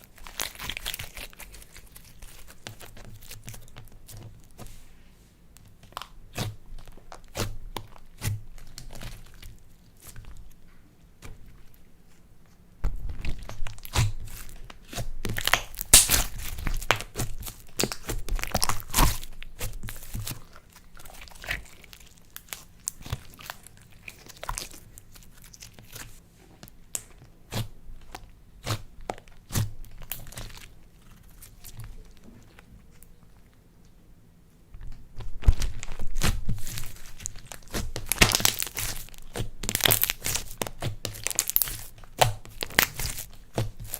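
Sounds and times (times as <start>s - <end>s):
slime kneaded by hand crackling: 0.0s - 4.9s, 5.5s - 33.5s, 34.8s - 43.9s.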